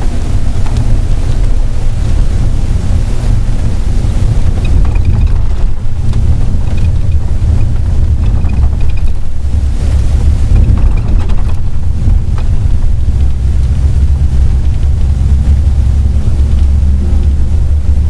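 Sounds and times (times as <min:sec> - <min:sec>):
vehicle engine and road noise: 0:00.0 - 0:18.0
wind buffeting microphone: 0:00.0 - 0:18.0.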